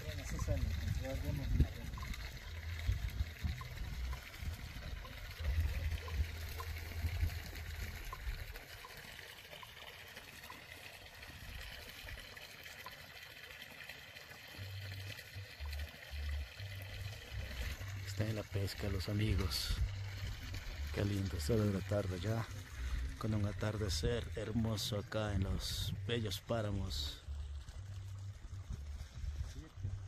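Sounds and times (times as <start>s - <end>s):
water trickling into pond: 0.0s - 30.0s.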